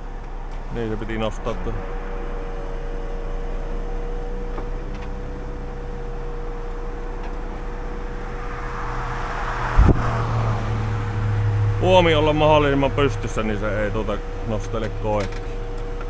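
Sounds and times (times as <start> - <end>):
hydraulic whine: 0.0 - 16.0
passing vehicle: 0.0 - 16.0
truck engine hum: 0.0 - 16.0.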